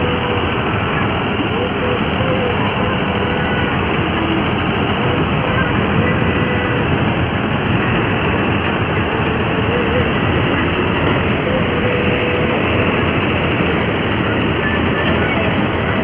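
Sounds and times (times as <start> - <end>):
combine harvester running: 0.0 - 16.0.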